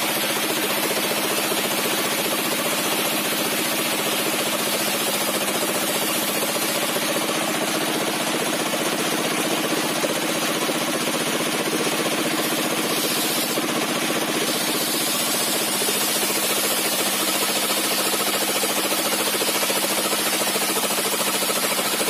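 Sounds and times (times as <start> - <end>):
circular saw cutting timber: 0.0 - 22.0
pulsing engine: 0.0 - 22.0.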